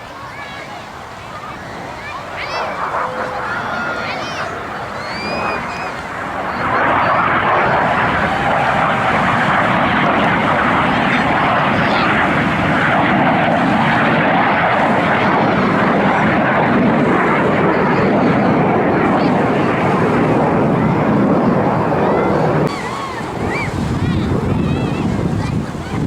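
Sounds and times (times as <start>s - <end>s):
plane engine flying over: 0.0s - 26.0s.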